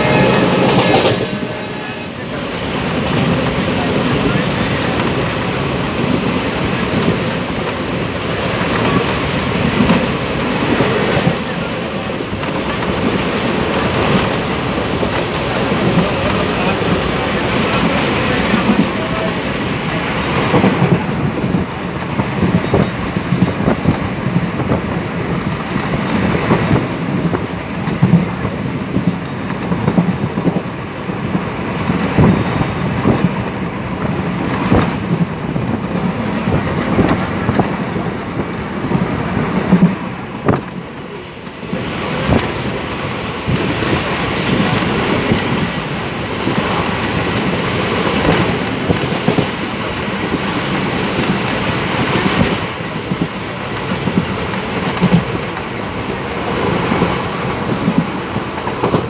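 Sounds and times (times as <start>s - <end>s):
train rushing rumble: 0.0s - 59.0s.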